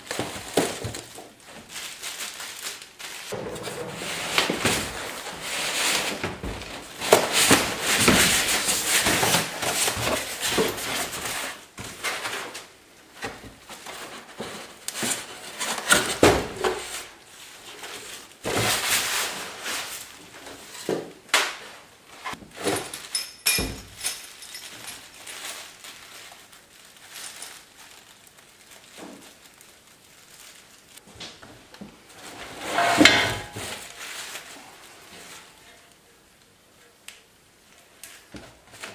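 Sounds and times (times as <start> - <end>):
plastic wrapping rustling: 0.0 - 38.9.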